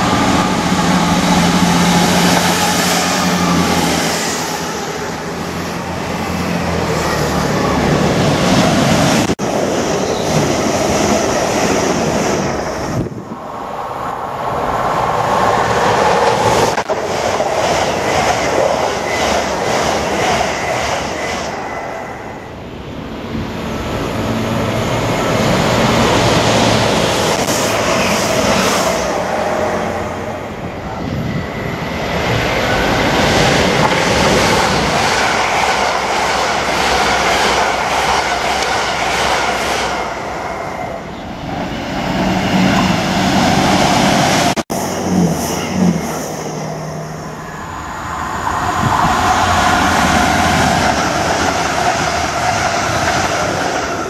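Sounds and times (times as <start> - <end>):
diesel train passing: 0.0 - 54.0
electric train passing: 0.0 - 54.0.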